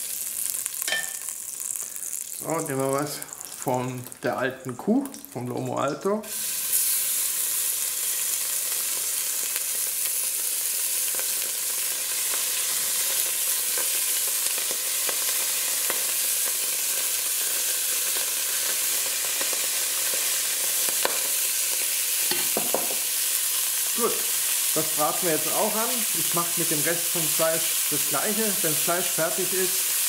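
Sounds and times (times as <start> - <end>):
beef sizzling in hot fat: 0.0 - 5.4, 6.2 - 30.0.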